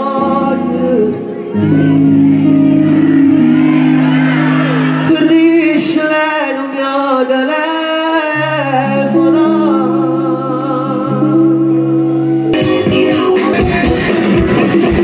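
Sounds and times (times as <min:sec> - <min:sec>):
man singing into a microphone: 0:00.0 - 0:02.1, 0:04.9 - 0:15.0
keyboard chords: 0:00.0 - 0:15.0.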